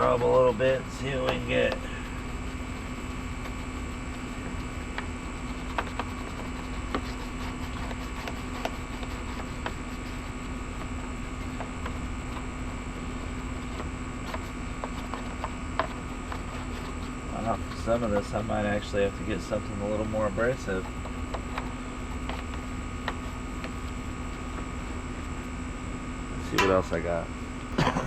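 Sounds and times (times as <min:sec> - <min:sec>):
air conditioner humming: 0:00.0 - 0:28.0.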